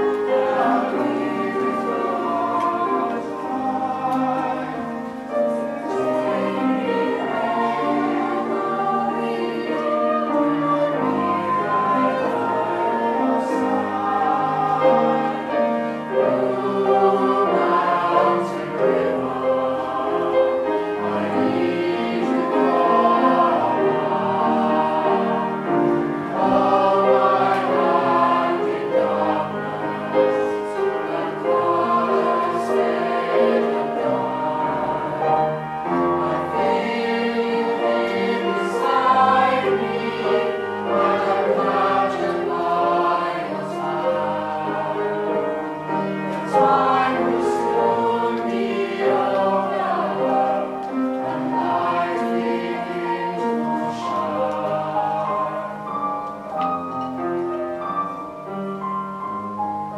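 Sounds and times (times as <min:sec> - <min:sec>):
choir singing: 0:00.0 - 0:59.9
piano accompaniment: 0:00.0 - 0:59.9.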